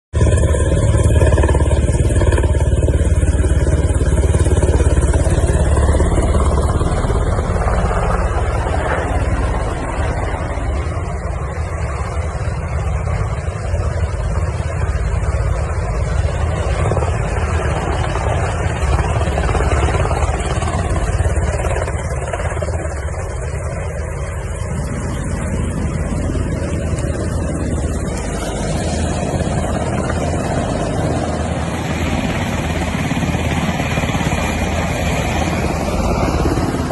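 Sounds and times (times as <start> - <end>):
helicopter rotor and engine noise: 0.1 - 36.9.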